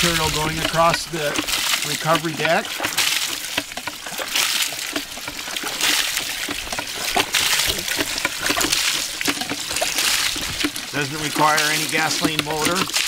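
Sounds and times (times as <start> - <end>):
water splashing onto wet gravel: 0.0 - 13.0.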